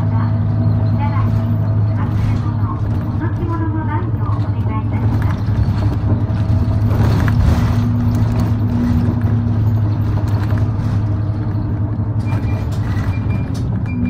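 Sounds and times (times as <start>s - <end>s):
bus engine droning: 0.0s - 14.0s
road noise: 0.0s - 14.0s.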